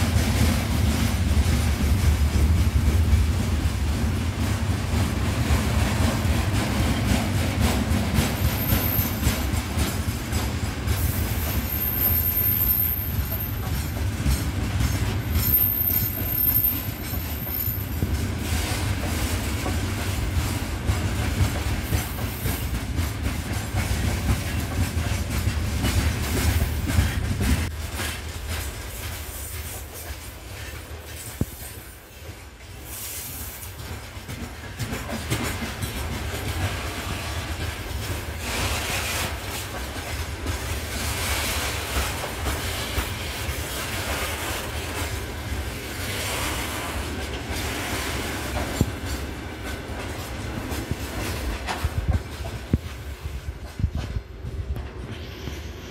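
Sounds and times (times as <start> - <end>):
wheels clacking over rail joints: 0.0 - 52.9
freight train wheels on rails: 0.0 - 55.9.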